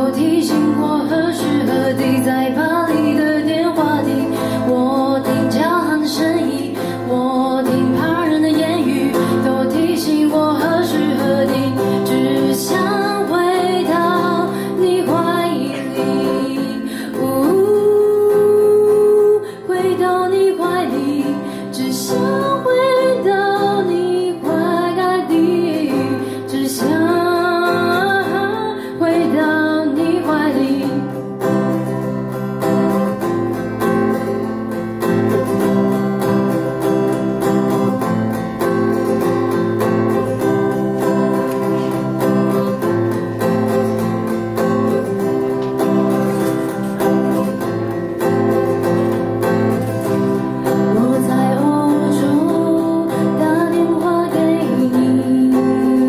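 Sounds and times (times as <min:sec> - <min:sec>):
woman singing: 0:00.0 - 0:32.2, 0:35.1 - 0:56.0
acoustic guitar: 0:00.0 - 0:56.0.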